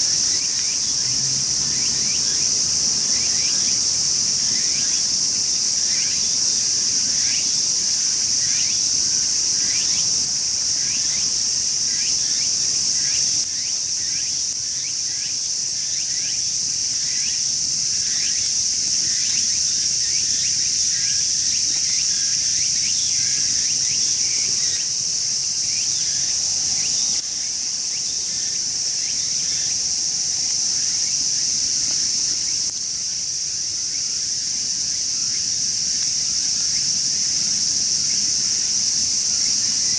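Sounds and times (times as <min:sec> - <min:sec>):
insect chirping: 0:00.0 - 0:39.9
insect drone: 0:00.0 - 0:39.9.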